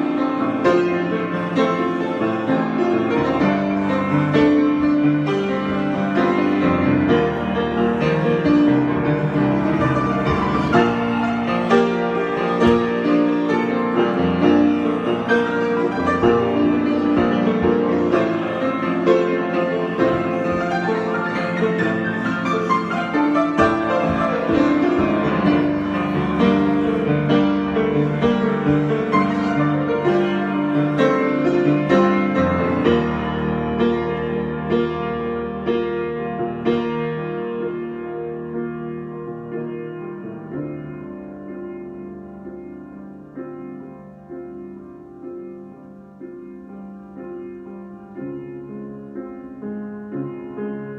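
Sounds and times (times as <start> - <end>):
solo piano: 0.0 - 50.9.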